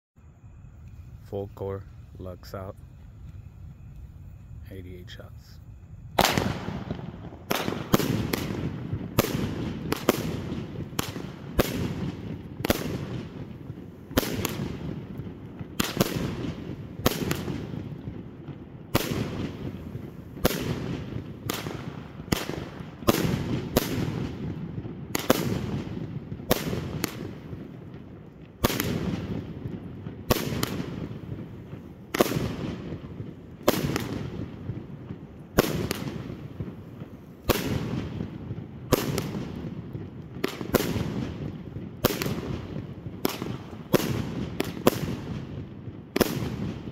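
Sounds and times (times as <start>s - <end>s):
firework cake firing sharp reports: 4.6s - 46.9s.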